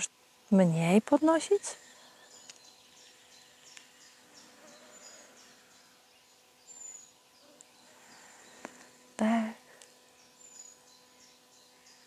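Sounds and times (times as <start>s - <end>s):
faint steady hum: 0.0s - 12.0s
faint high bird chirps: 1.0s - 12.0s.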